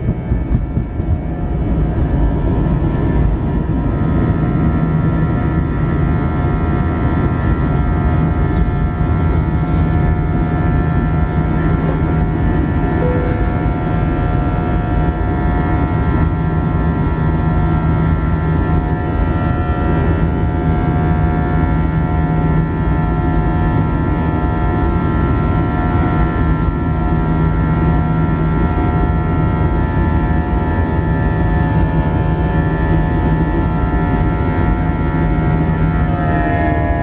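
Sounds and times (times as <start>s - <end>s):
jet engines at high thrust: 0.0s - 37.0s.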